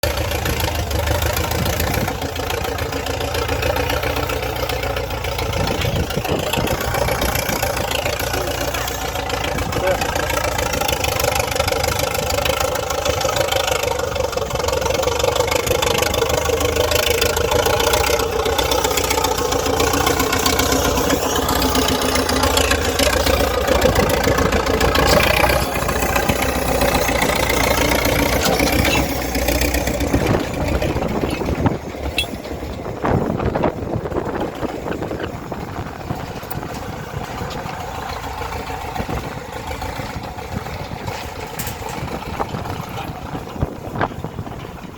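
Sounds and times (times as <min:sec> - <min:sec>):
diesel tractor engine running: 0:00.0 - 0:44.9
sharp engine knocks: 0:00.0 - 0:44.9.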